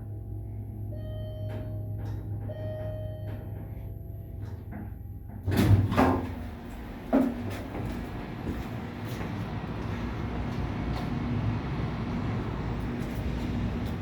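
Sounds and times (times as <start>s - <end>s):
low machinery hum: 0.0s - 14.0s
elevator doors rattling: 1.4s - 14.0s.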